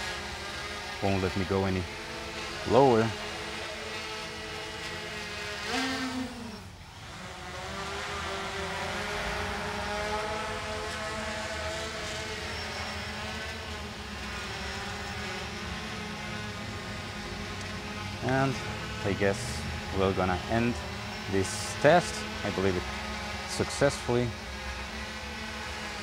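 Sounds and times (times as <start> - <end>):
drone rotors whirring: 0.0 - 26.0.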